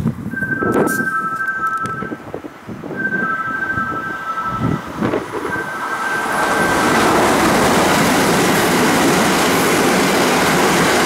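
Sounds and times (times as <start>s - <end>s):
train rushing past: 0.4s - 11.0s.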